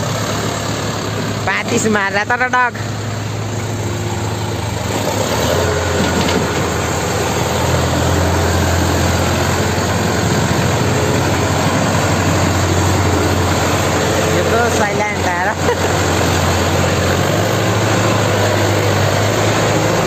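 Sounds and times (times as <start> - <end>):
tractor diesel engine humming: 0.0 - 20.0.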